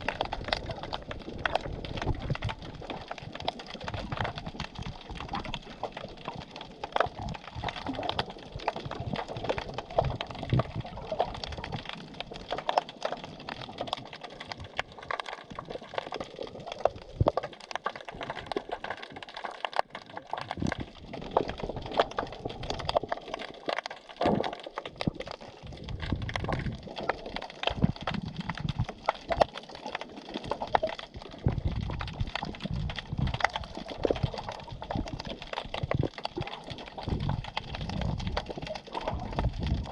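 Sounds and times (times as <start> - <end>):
surges of moving water: 0.0 - 39.9
underwater crackling clicks: 0.0 - 39.9.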